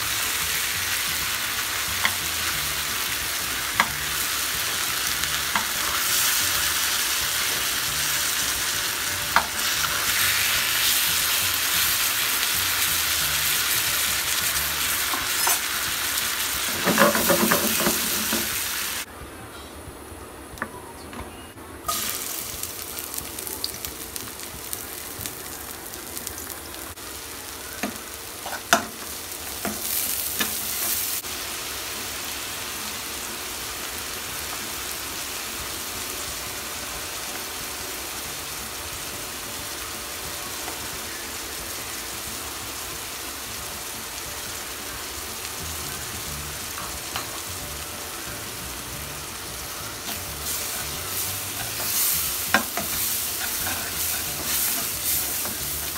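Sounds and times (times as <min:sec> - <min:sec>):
oil sizzling in a frying pan: 0:00.0 - 0:19.1, 0:21.9 - 0:55.9.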